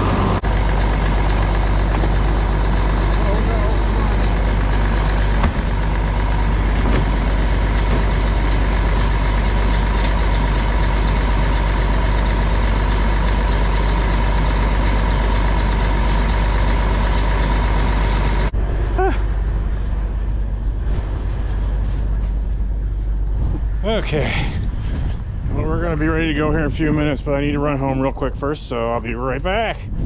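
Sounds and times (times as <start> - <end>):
farm machine engine idling: 0.0 - 24.7.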